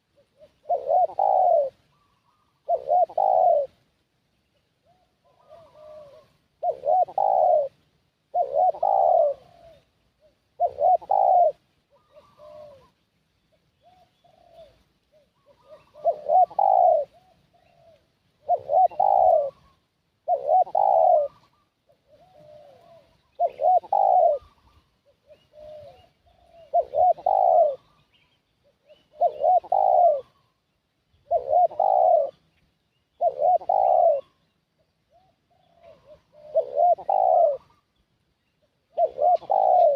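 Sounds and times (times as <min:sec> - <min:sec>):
dove cooing: 0:00.0 - 0:03.8, 0:04.8 - 0:32.5, 0:33.1 - 0:39.9.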